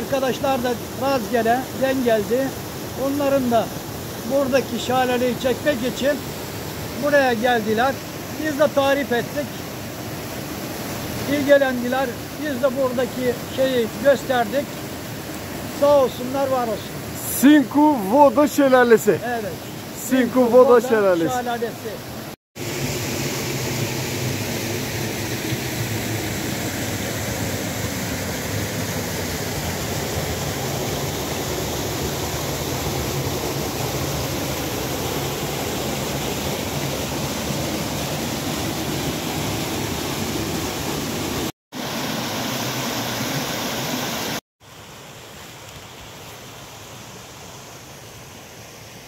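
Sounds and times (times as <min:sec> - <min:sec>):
stream running over rocks: 0:00.0 - 0:49.0.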